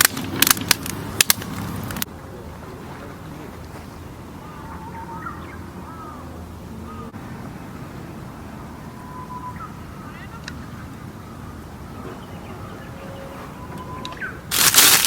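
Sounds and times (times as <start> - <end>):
birds chirping: 1.0 - 15.0.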